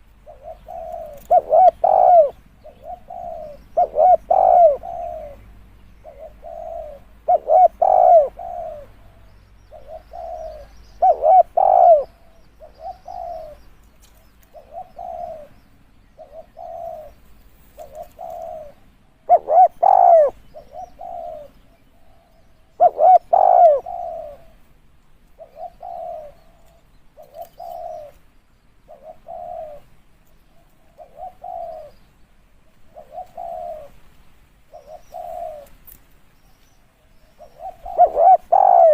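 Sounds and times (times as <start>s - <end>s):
dove cooing: 0.0s - 28.2s, 28.8s - 34.0s, 34.6s - 35.9s, 37.0s - 38.9s.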